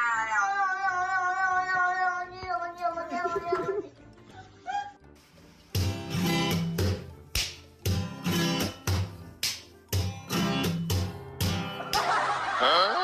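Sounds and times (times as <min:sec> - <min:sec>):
plucked background music: 0:00.0 - 0:13.0.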